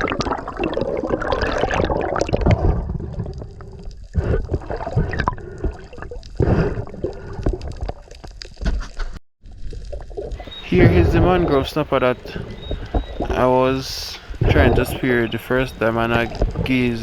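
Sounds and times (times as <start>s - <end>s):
water gurgling and sloshing: 0.0s - 17.0s.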